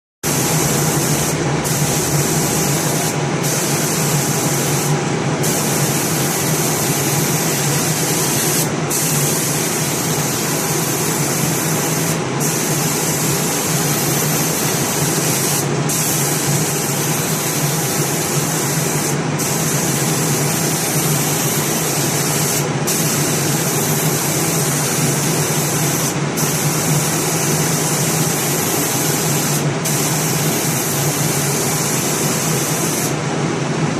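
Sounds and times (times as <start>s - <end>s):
loud spray hiss: 0.3s - 33.2s.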